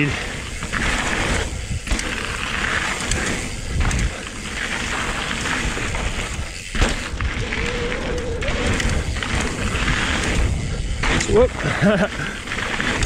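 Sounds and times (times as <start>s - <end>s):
tyres rolling over rocky dirt: 0.0s - 13.0s
wind buffeting microphone: 0.0s - 13.0s.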